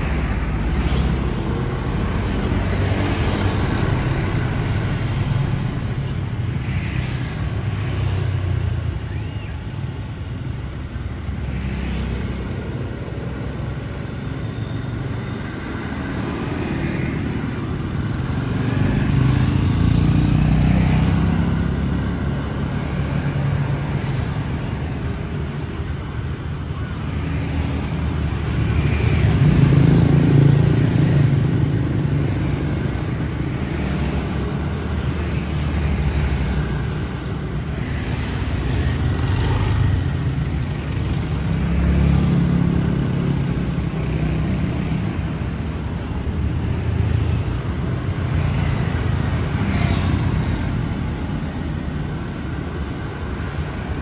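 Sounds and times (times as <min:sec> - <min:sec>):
motorbikes and cars passing: 0:00.0 - 0:54.0.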